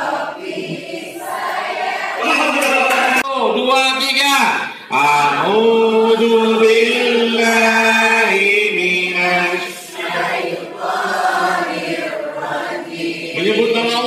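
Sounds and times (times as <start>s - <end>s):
group chanting in unison: 0.0s - 3.2s, 4.9s - 14.0s.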